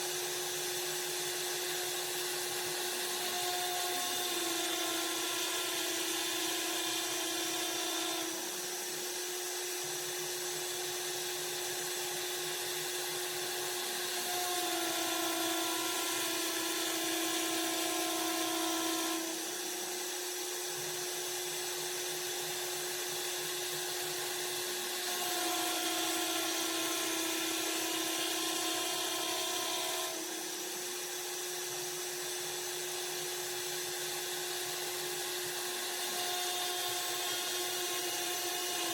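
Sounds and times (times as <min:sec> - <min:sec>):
spindle motor whining cutting wood: 0:00.0 - 0:38.9.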